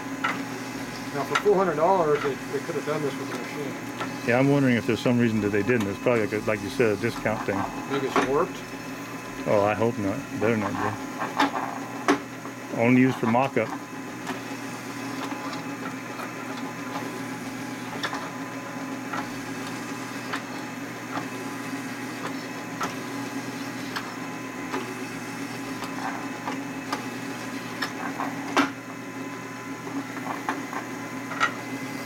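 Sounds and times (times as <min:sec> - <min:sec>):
drill press running: 0:00.0 - 0:32.0.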